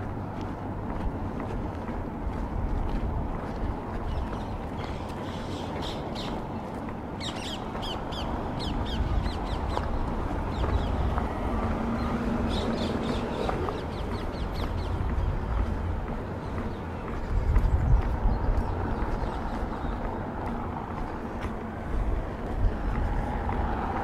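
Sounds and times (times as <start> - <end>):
city traffic rumble: 0.0 - 24.0
birds chirping: 3.2 - 23.9.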